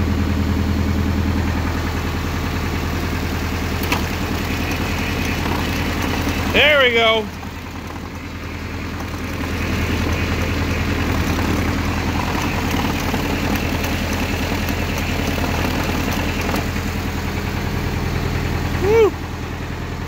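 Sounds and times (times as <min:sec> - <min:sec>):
starter cranking diesel engine: 0:00.0 - 0:20.0.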